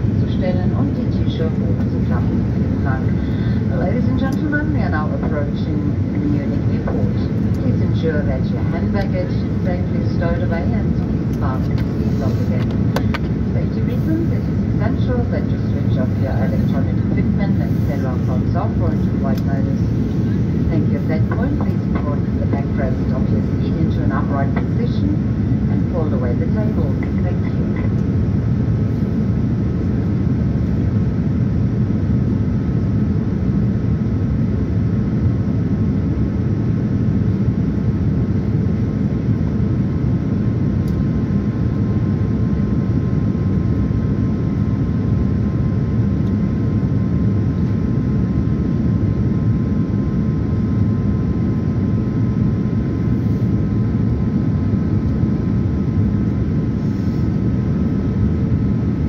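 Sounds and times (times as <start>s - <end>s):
airliner cabin engine rush: 0.0s - 59.0s
faint steady whine: 0.0s - 59.0s.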